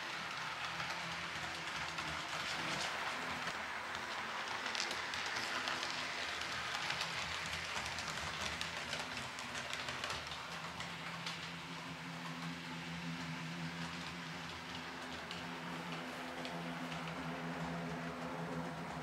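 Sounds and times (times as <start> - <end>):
model train wheels crackling on rails: 0.0 - 19.0.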